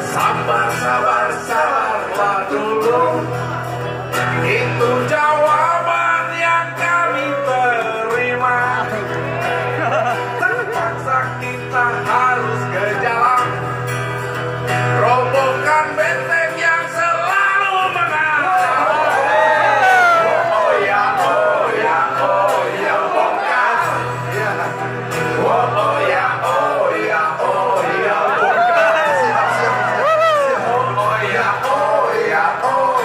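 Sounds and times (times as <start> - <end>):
men singing into microphones: 0.0 - 3.7, 4.3 - 13.5, 15.0 - 33.0
guitar: 0.0 - 33.0.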